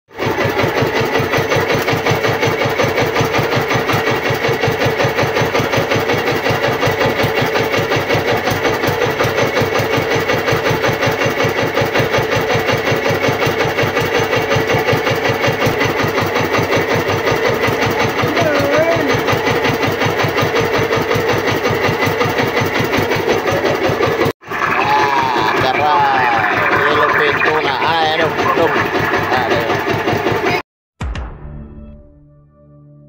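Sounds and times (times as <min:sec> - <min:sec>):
boat engine chugging: 0:00.1 - 0:30.6.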